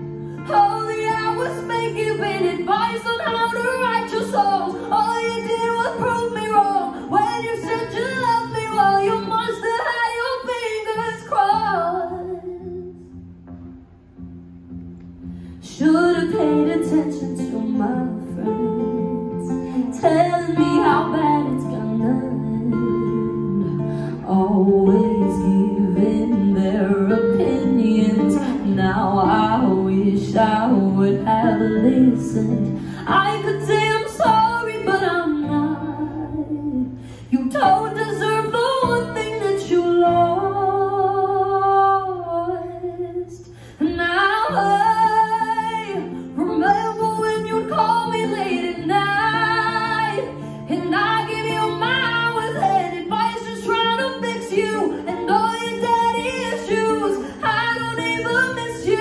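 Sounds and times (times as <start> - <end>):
woman singing pop song: 0.0 - 13.2, 15.2 - 59.0
acoustic guitar: 0.0 - 59.0.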